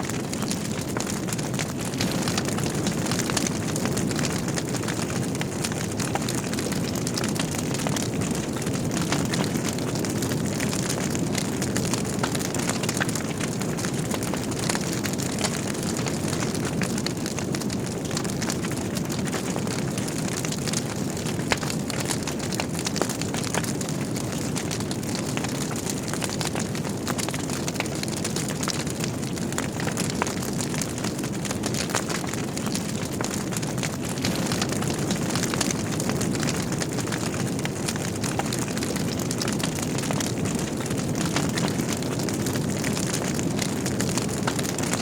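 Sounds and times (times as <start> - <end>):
burning logs crackling and popping: 0.0 - 45.0
fire flames rumbling: 0.0 - 45.0.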